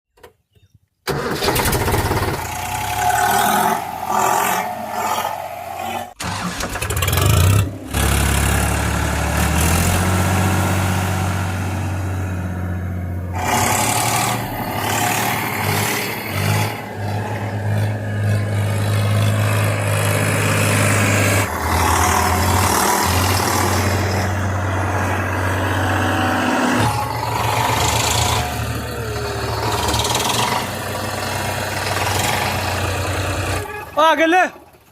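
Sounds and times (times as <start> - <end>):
tractor engines revving: 1.1 - 34.9.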